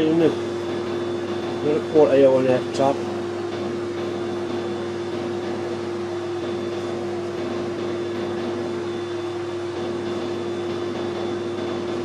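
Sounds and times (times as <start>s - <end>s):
metal lathe running: 0.0s - 12.0s
whining drive tone: 0.0s - 12.0s.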